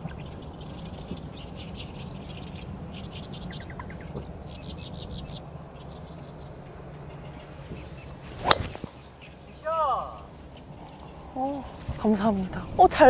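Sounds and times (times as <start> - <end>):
birds chirping and singing: 0.0 - 12.2
bird trill: 0.2 - 11.4.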